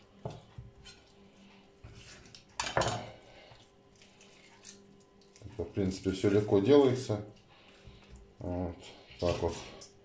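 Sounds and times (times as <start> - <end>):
handling and scraping noises: 0.2 - 9.9.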